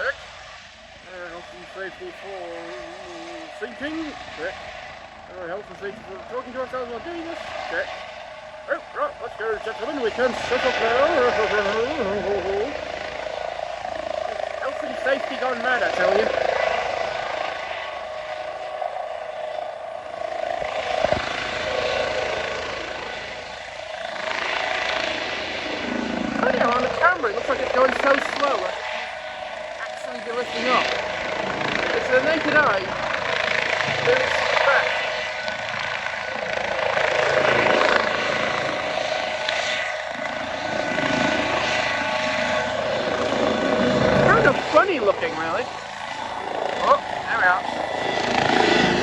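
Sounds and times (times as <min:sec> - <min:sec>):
helicopter turbine and rotor: 0:00.0 - 0:49.0.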